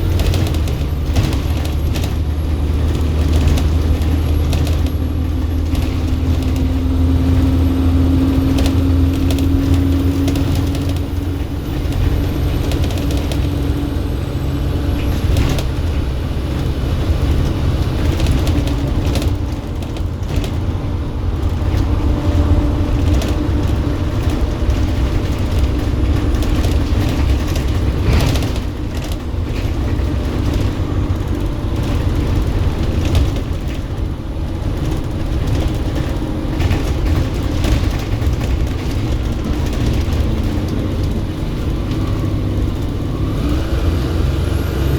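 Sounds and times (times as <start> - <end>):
knocks and rattles: 0.0 - 13.9, 14.9 - 43.0
bus diesel engine droning: 0.0 - 44.9.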